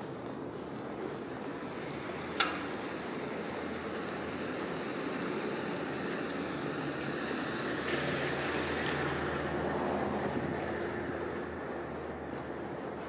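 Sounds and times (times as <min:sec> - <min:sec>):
tyre and road noise: 0:00.0 - 0:13.0.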